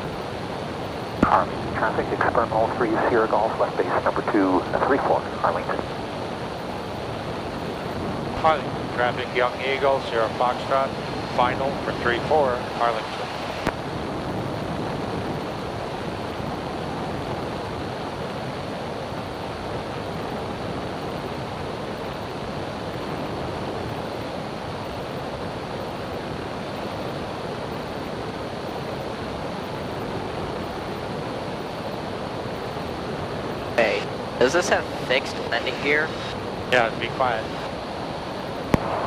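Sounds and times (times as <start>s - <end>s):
aircraft cabin engine hiss: 0.2s - 18.9s, 25.5s - 39.0s.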